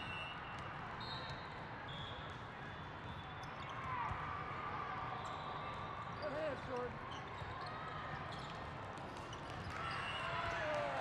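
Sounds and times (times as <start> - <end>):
crowd voices in hall: 0.0 - 11.0.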